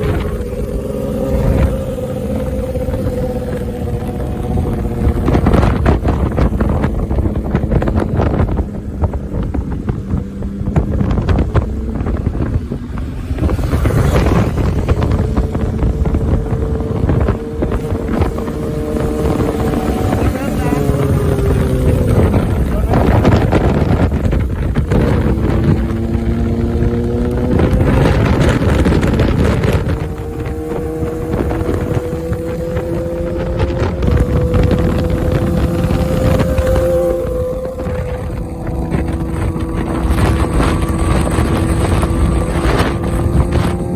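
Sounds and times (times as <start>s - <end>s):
motorcycle engine running: 0.0s - 43.9s
wind buffeting microphone: 0.0s - 43.9s.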